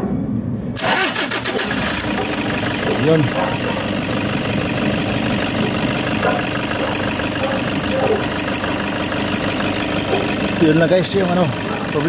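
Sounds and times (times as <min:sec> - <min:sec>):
diesel engine idling: 0:00.8 - 0:12.0.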